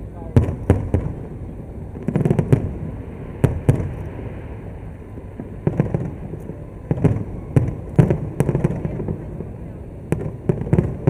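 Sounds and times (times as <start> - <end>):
fireworks bangs and booms: 0.0 - 11.0.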